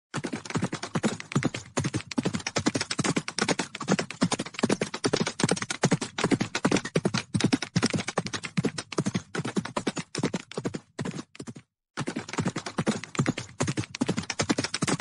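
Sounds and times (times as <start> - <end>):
horses galloping on dirt: 0.2 - 15.0.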